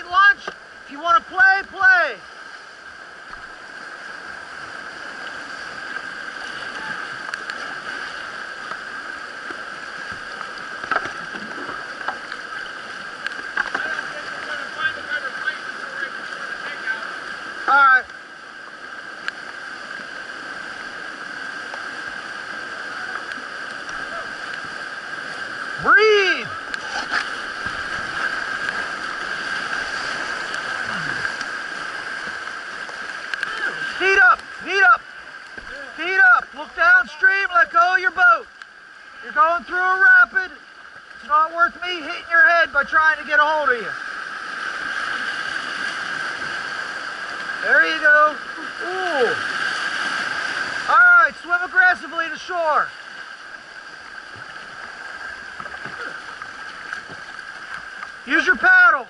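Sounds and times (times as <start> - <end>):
sharp water splashes: 0.0 - 59.0
whitewater rapids roaring: 0.0 - 59.0.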